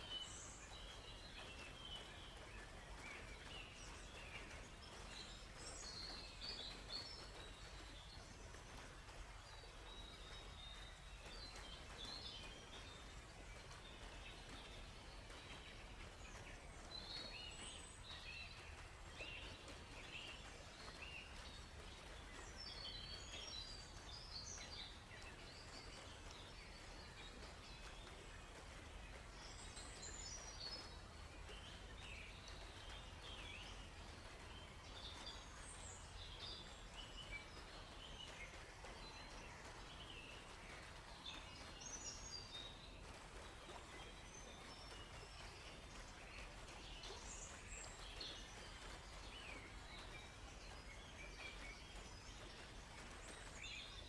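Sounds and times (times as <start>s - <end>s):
faint background hiss: 0.0s - 54.0s
songbirds chirping and trilling: 0.0s - 54.0s.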